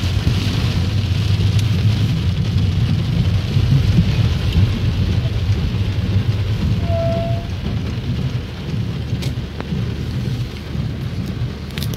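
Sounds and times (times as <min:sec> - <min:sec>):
heavy rain on car roof: 0:00.0 - 0:11.9.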